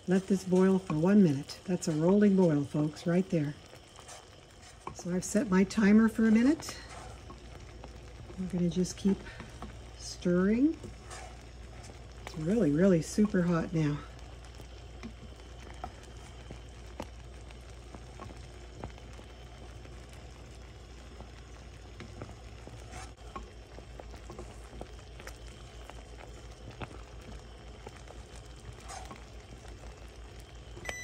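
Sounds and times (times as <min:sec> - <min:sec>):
wooden spoon stirring: 0:00.0 - 0:30.9
jam bubbling: 0:00.0 - 0:31.0.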